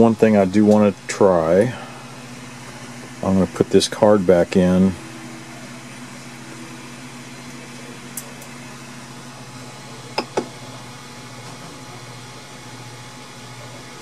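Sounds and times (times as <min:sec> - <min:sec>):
printer fans humming: 0:00.0 - 0:14.0.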